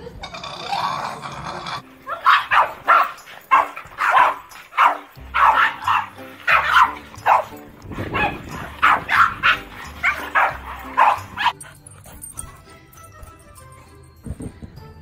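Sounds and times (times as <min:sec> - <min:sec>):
dogs barking: 0:00.4 - 0:12.7
background music with bass: 0:01.8 - 0:15.0.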